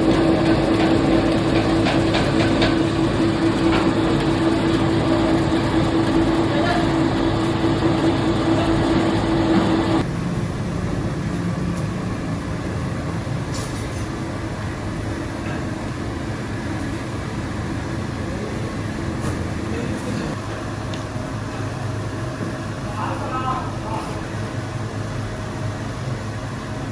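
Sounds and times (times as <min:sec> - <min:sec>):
factory machinery humming: 0:00.0 - 0:26.9.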